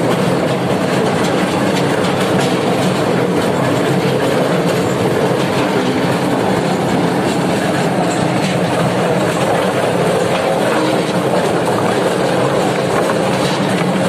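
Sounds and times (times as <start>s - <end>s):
debarking machine running: 0.0s - 14.0s
logs clattering in trough: 0.0s - 14.0s
tractor engine: 0.0s - 14.0s.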